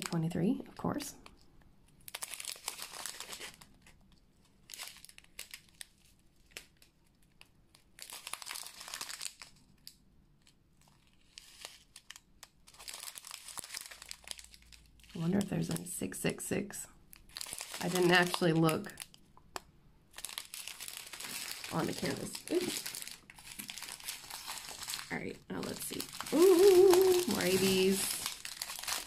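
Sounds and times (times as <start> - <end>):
plastic bags crinkling: 2.1 - 10.0, 10.8 - 15.8, 17.2 - 19.2, 20.1 - 29.0.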